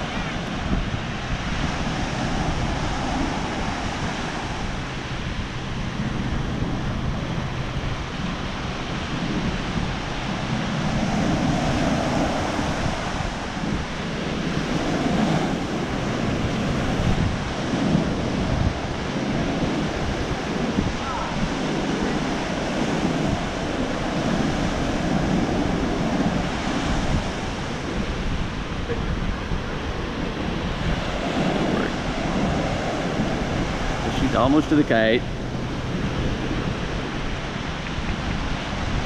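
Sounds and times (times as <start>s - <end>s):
surf washing up beach: 0.0s - 39.0s
wind buffeting microphone: 0.0s - 39.0s.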